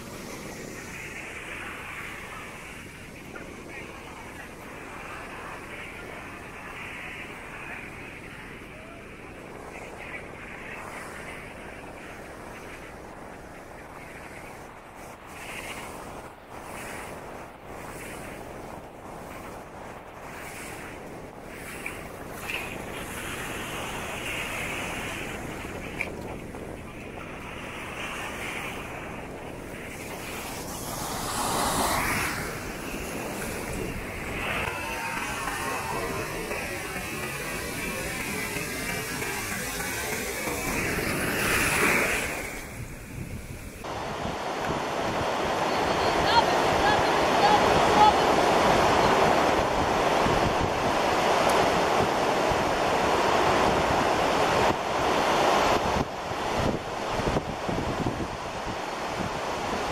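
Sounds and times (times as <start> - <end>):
ocean surf washing: 0.0 - 59.9.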